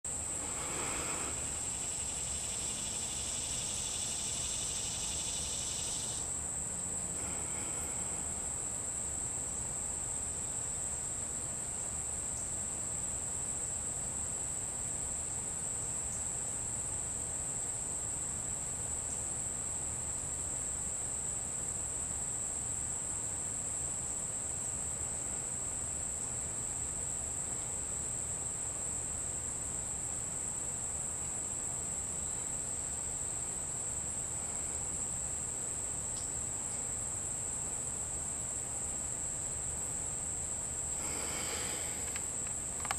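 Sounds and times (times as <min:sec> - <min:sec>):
faint hiss: 0:00.1 - 0:42.9
insects trilling: 0:00.1 - 0:42.9.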